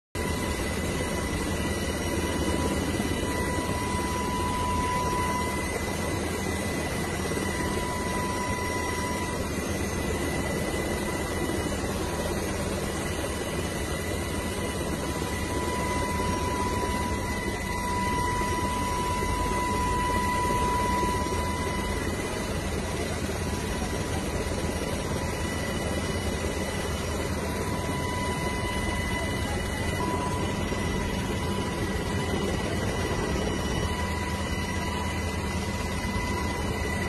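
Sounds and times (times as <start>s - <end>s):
helicopter rotor and engine rumble: 0.2s - 37.0s
high whine: 0.2s - 37.0s.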